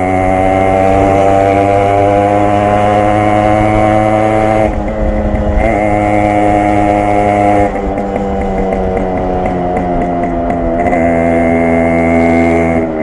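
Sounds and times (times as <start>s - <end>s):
motorcycle exhaust running: 0.0s - 13.0s.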